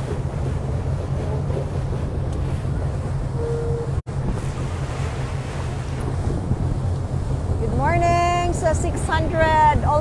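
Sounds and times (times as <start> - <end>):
motorboat engine droning: 0.0 - 10.0
water rushing past hull: 0.0 - 10.0
wind buffeting microphone: 0.0 - 10.0.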